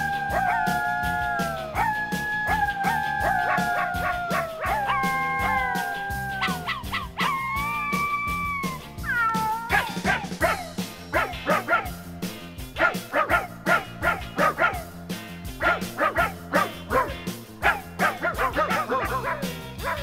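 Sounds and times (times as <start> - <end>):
background music: 0.0 - 20.0
dog barking and yipping: 0.2 - 7.6, 9.1 - 12.0, 12.8 - 14.9, 15.6 - 20.0.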